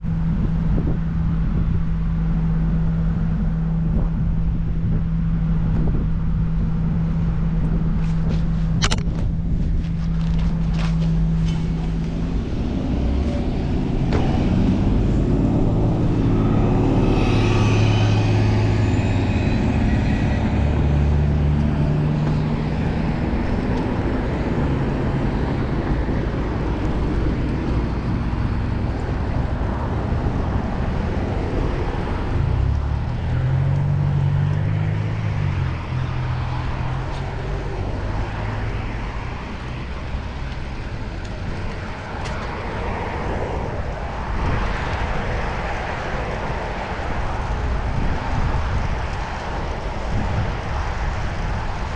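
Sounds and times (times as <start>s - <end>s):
passing motor vehicles: 0.0s - 51.9s
wind noise: 0.0s - 51.9s.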